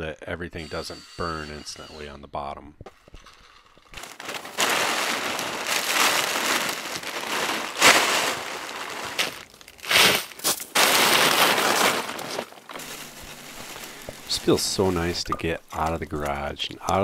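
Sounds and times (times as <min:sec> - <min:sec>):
plastic sacks rustling: 0:03.1 - 0:17.0.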